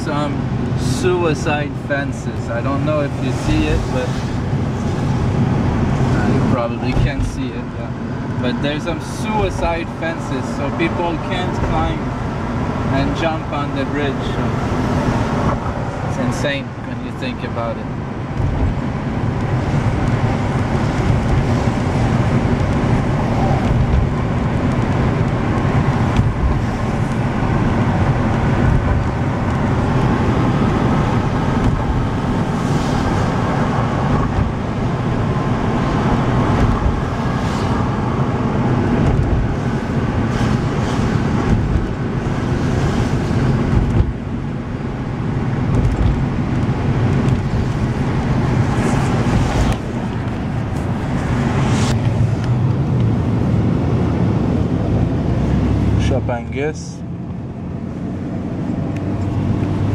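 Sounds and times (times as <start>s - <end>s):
vehicle engine and tyre noise: 0.0s - 59.9s.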